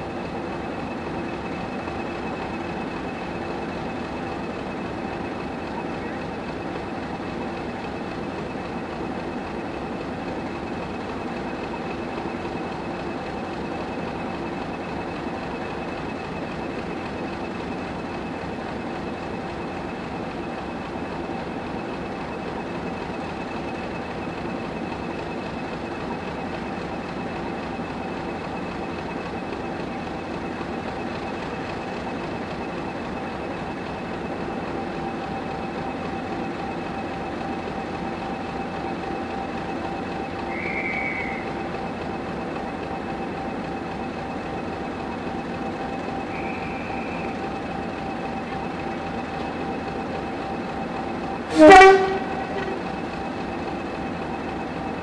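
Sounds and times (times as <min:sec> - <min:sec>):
diesel locomotive idling: 0:00.0 - 0:55.0
steady whine of held tones: 0:00.0 - 0:55.0.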